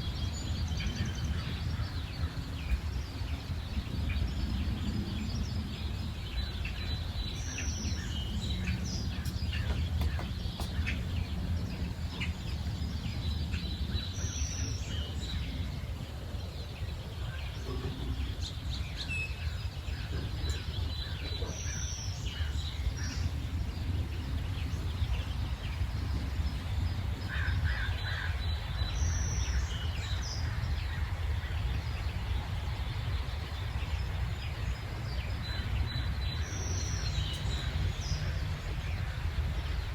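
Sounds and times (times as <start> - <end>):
birds chirping: 0.0 - 39.9
low background rumble: 0.0 - 39.9.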